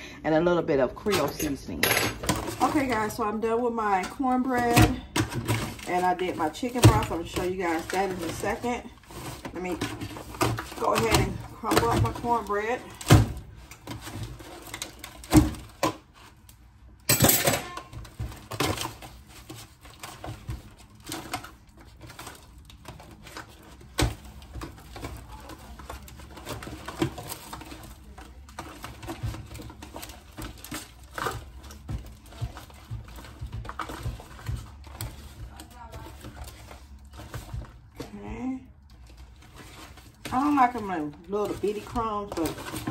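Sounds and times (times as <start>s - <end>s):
foil pan crinkling: 2.2s - 42.9s.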